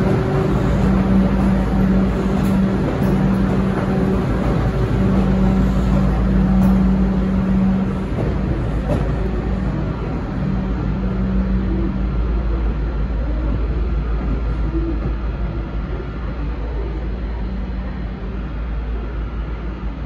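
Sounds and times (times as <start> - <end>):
train carriages rumbling over rails: 0.0 - 20.0.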